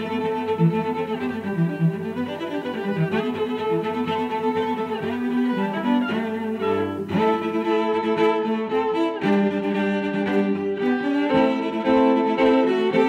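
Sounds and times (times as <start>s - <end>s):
bowed strings playing chords: 0.0s - 13.0s.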